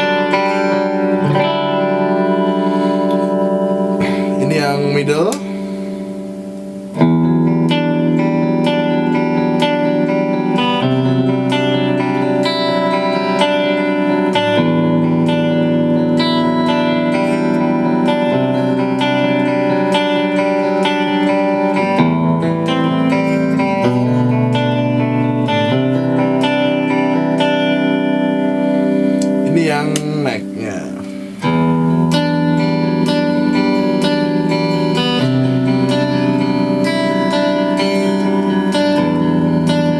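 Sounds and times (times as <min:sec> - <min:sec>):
electric guitar picked arpeggios: 0:00.0 - 0:39.9.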